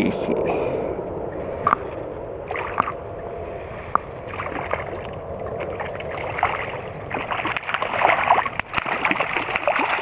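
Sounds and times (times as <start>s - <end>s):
fish splashing: 1.4s - 10.0s
small stream running: 1.4s - 10.0s.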